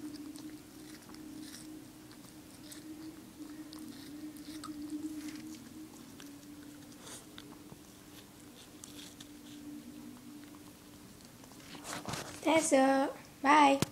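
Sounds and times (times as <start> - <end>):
dog chewing watermelon rind: 0.0 - 12.5
steady low hum: 0.0 - 13.9.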